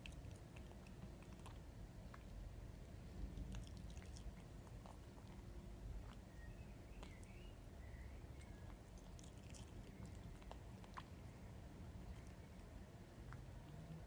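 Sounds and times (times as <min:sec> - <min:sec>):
cat chewing food: 0:00.0 - 0:14.0
low background rumble: 0:00.0 - 0:14.0.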